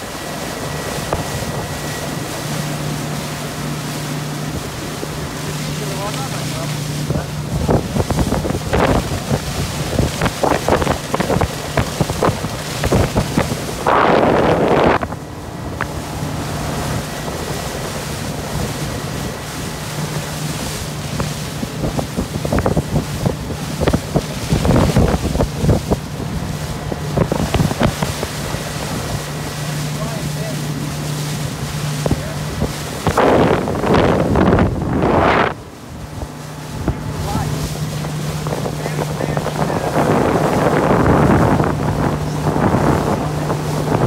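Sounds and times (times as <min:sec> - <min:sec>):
loud rush of wind or water: 0:00.0 - 0:44.0
motorboat engine humming: 0:00.0 - 0:44.0
water sloshing against hull: 0:00.0 - 0:44.0
wind buffeting microphone: 0:00.0 - 0:44.0.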